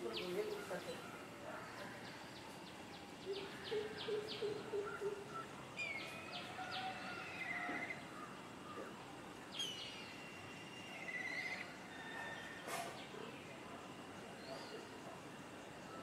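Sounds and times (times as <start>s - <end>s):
outdoor background: 0.0s - 16.0s.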